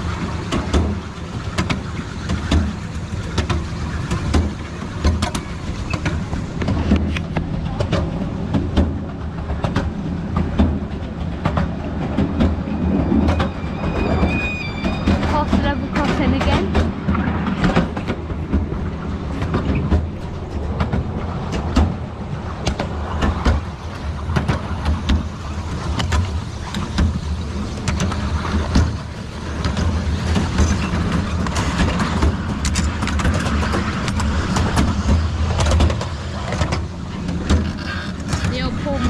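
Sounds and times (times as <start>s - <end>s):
rail clicks and clacks: 0.0s - 39.0s
train wheels rumbling on rails: 0.0s - 39.0s.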